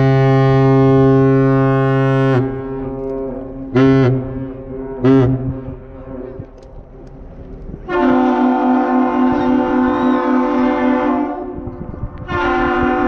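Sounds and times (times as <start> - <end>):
deep ship horn blasts: 0.0 - 13.0.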